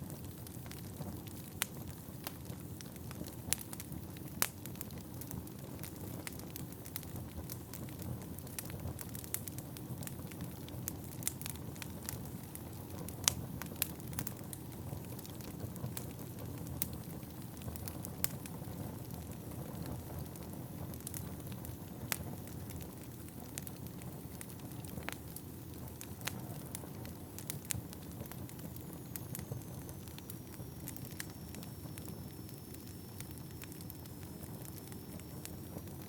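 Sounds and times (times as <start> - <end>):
fire flames rumbling: 0.0 - 36.0
wood fire crackling and popping: 0.0 - 36.0.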